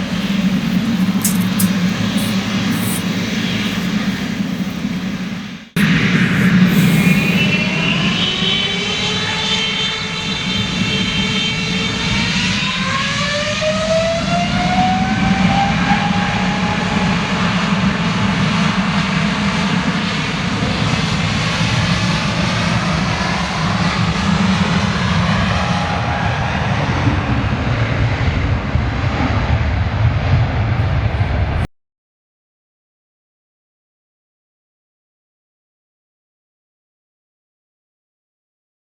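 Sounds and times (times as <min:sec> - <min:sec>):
jet engines roaring and whining: 0:00.0 - 0:31.7.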